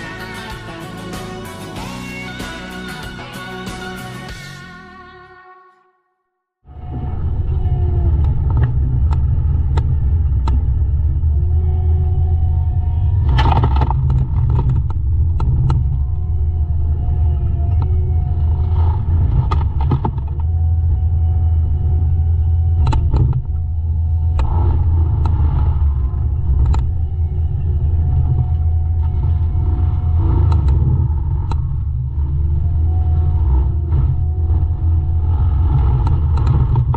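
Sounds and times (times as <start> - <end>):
diesel engine running under load: 6.7 - 36.9
hydraulic whine: 6.7 - 36.9.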